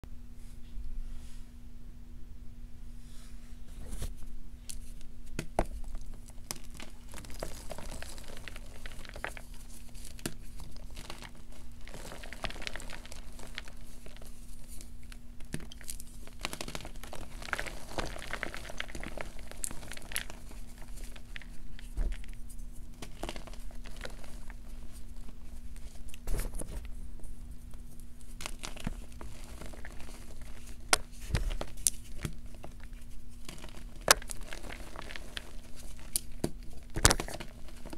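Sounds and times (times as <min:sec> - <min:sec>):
chalk crunching and crumbling: 0:03.8 - 0:37.9.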